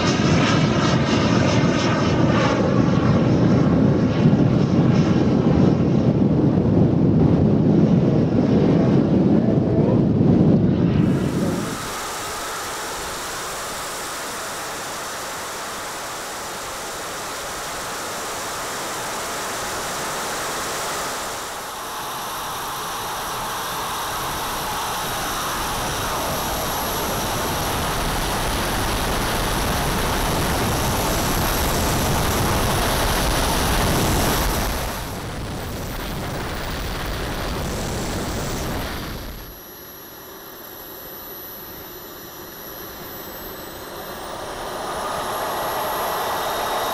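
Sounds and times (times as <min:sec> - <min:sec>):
model jet engines whining: 0:00.0 - 0:46.9.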